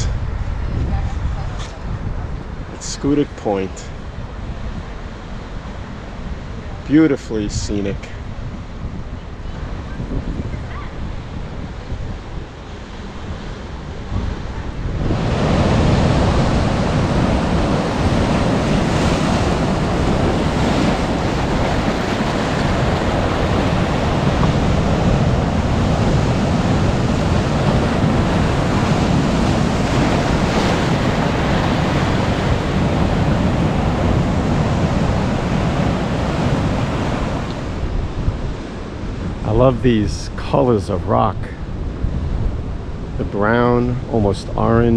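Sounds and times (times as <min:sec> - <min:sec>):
ocean surf washing in: 0:00.0 - 0:44.9
wind buffeting microphone: 0:00.0 - 0:44.9.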